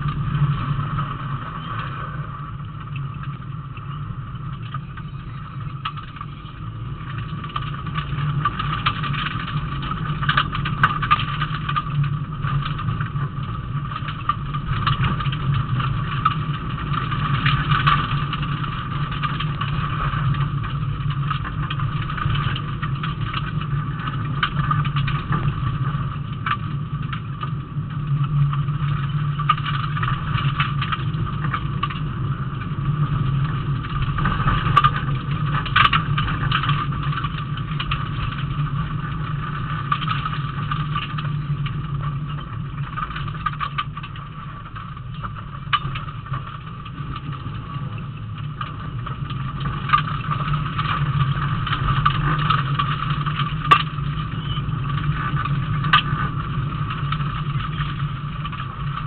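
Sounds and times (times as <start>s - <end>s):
clicks and rattles: 0.0s - 59.0s.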